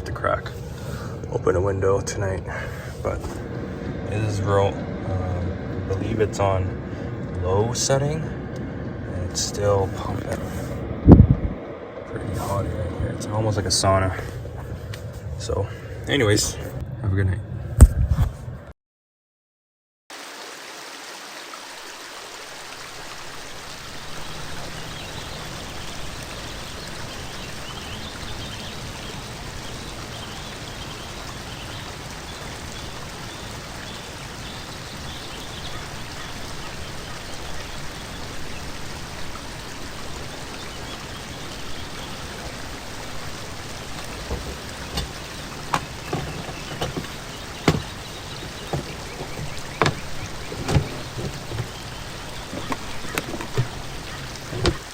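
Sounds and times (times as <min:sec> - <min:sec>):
rain-like patter: 0:00.0 - 0:17.9, 0:20.1 - 0:54.9.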